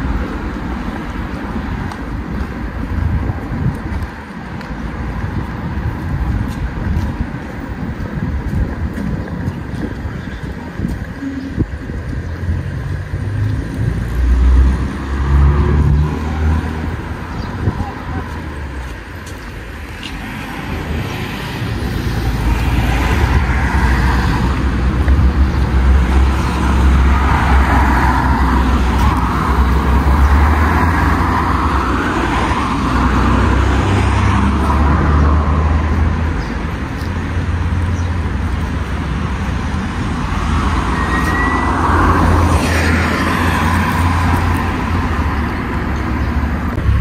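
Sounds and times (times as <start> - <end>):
cars passing: 0.0 - 47.0
low traffic rumble: 0.0 - 47.0.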